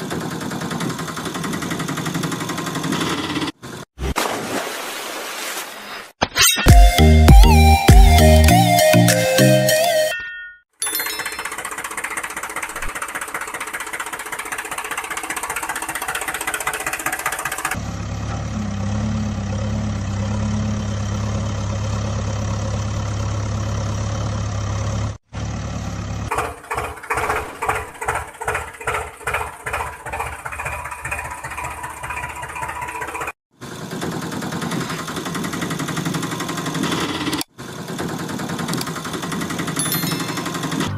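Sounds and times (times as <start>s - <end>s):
tractor engine running: 0.0s - 3.9s, 10.8s - 40.9s.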